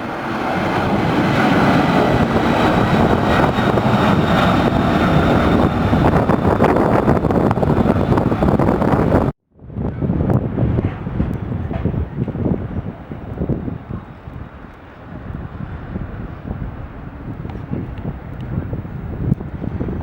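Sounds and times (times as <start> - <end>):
jet engines roaring with whine: 0.0 - 9.4, 10.4 - 20.0.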